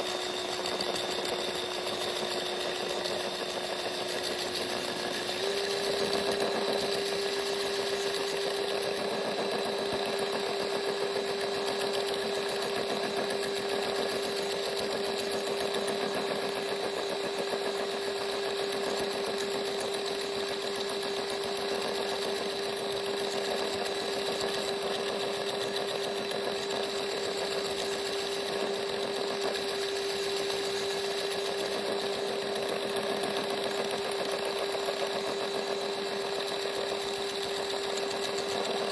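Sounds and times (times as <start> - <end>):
power tool motor humming: 0.0 - 38.9.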